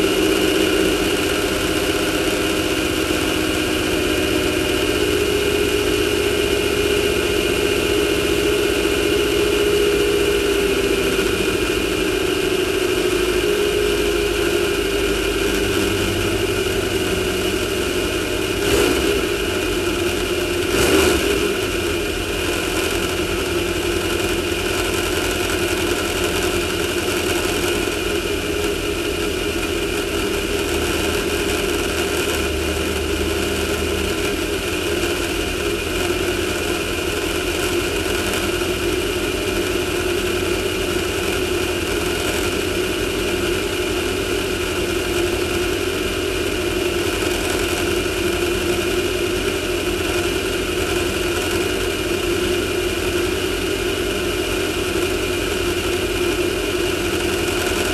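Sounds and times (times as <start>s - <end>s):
car engine running steadily: 0.0s - 57.9s.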